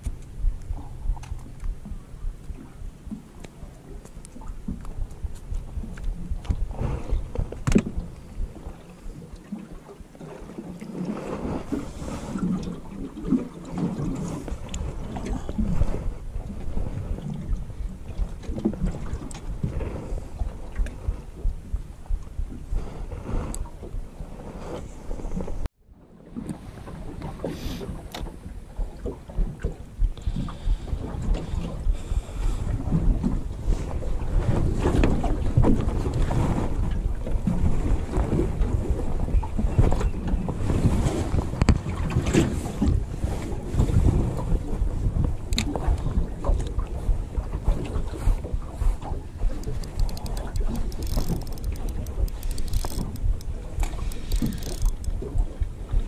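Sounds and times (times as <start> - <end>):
waves slapping boat hull: 0.0 - 56.0
wind on microphone: 0.0 - 56.0.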